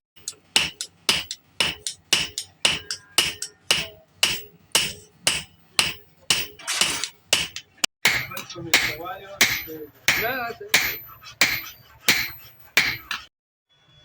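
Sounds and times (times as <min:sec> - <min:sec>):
hammer striking metal on anvil: 0:00.2 - 0:13.3.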